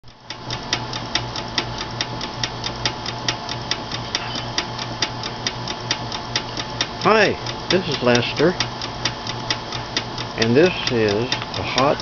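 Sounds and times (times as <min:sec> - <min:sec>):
steam engine ticking: 0:00.1 - 0:12.0.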